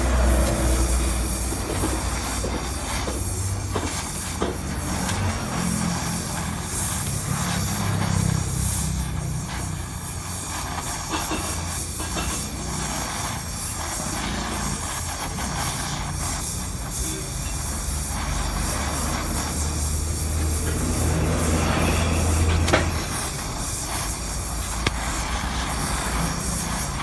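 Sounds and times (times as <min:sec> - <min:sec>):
welding arc buzzing and crackling: 0:00.0 - 0:27.0.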